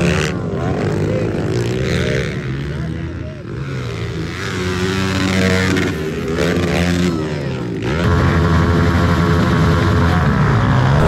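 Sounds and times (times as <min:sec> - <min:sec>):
motorbike engines revving past: 0:00.0 - 0:11.0.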